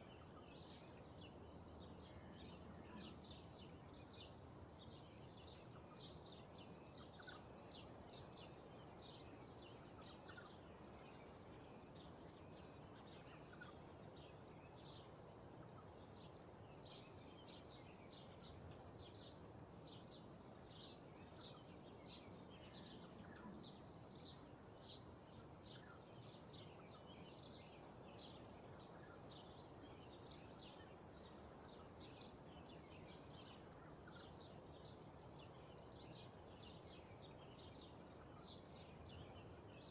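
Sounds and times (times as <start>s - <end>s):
low rush of wind: 0.0s - 39.9s.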